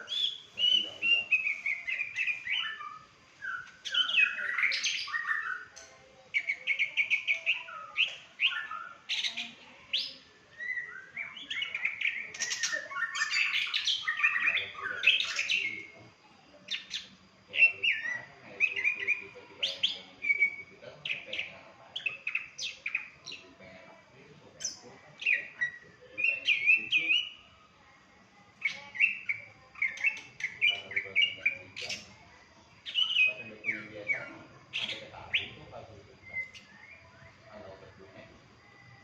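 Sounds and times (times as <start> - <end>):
songbird singing: 0.0 - 39.0.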